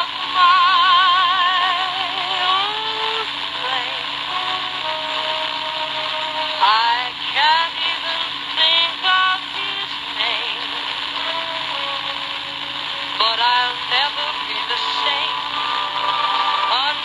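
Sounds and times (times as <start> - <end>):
radio static hiss: 0.0 - 17.0
song from small radio speaker: 0.0 - 17.0.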